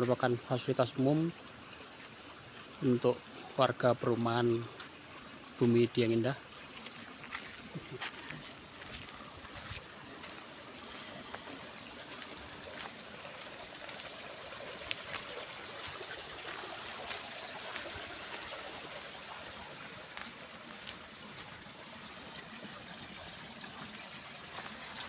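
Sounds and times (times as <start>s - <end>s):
running water rushing: 0.0s - 25.0s.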